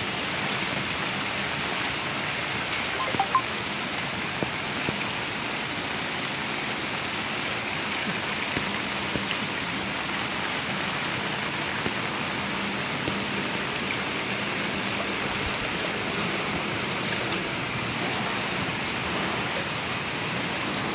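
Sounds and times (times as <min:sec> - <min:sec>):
rain falling on water: 0:00.0 - 0:20.9.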